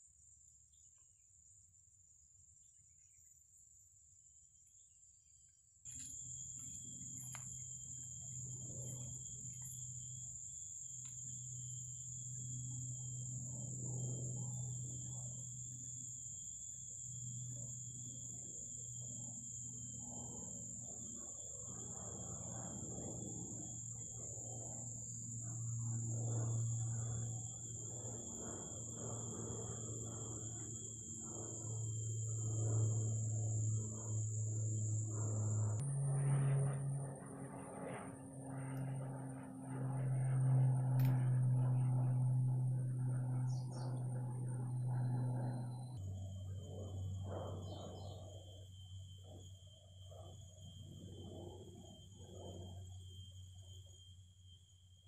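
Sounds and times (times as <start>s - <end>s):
high-pitched insect drone: 4.6s - 55.0s
low moaning hum: 5.9s - 55.0s.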